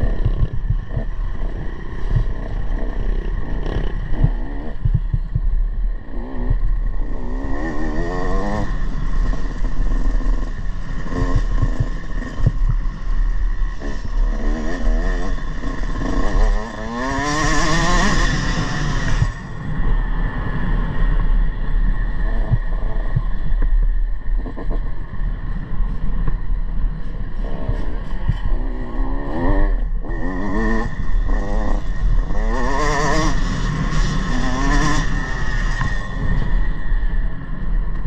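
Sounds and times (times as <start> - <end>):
dirt bike engine revving: 0.0 - 21.1, 27.4 - 37.4
wind on microphone: 0.0 - 38.0.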